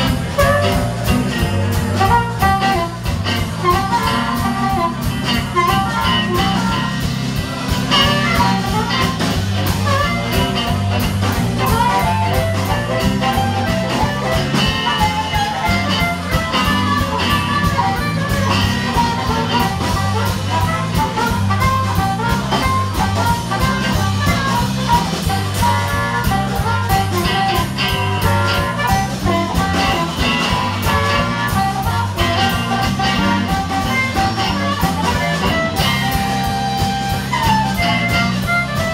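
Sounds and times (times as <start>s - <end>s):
drums: 0.0s - 38.9s
electric guitar: 0.0s - 38.9s
harmonica lead: 0.0s - 38.9s
walking bass guitar: 0.0s - 38.9s.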